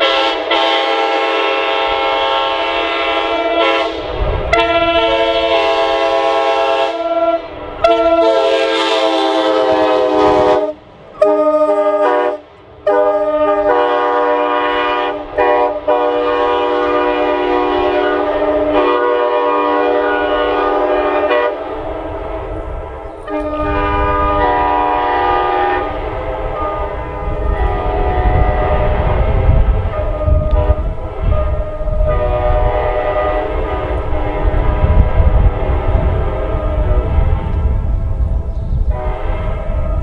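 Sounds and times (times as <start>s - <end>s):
locomotive air horn chord: 0.0s - 38.0s, 38.8s - 40.0s.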